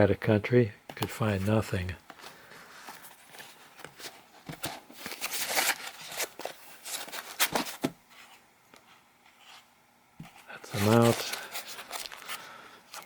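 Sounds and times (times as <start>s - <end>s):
packaging rustling and scraping: 1.3s - 8.4s, 9.3s - 13.0s.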